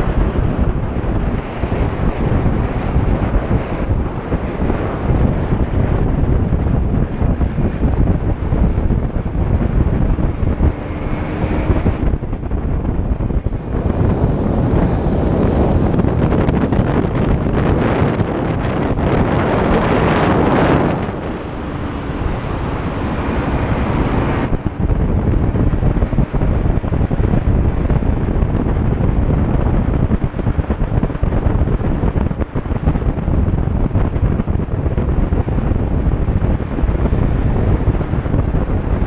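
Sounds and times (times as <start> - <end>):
motorcycle engine: 0.0 - 39.0
road noise: 0.0 - 39.0
wind buffeting microphone: 0.0 - 39.0.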